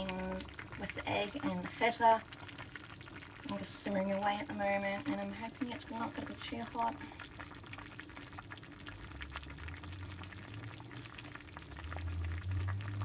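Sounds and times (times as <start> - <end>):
soup simmering with bubbles popping: 0.0 - 13.0.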